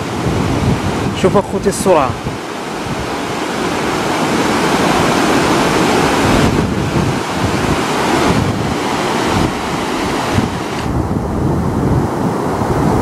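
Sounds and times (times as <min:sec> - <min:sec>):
floodwater rushing and churning: 0:00.0 - 0:13.0
wind buffeting microphone: 0:00.0 - 0:13.0.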